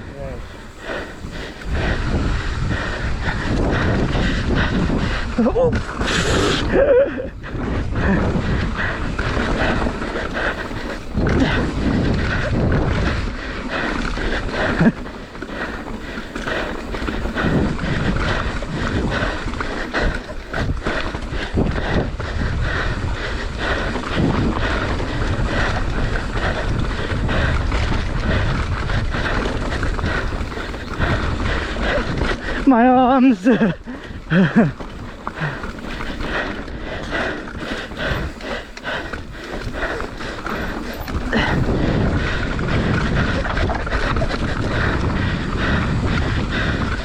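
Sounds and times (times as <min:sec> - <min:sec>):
bike rattling on dirt trail: 0:00.0 - 0:47.0
wind buffeting microphone: 0:00.0 - 0:47.0
bike hard jolt: 0:00.3 - 0:47.0.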